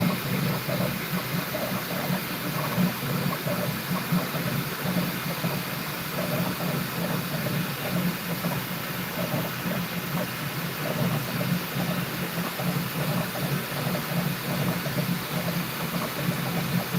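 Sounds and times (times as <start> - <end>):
printer fan hiss: 0.0 - 16.9
printer motor hum: 0.0 - 16.9.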